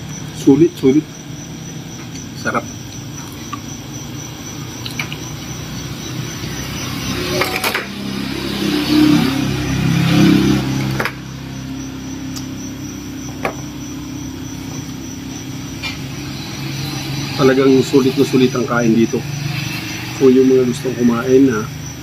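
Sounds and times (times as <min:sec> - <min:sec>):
steady low hum: 0:00.0 - 0:22.0
vehicle engine passing by: 0:03.8 - 0:22.0.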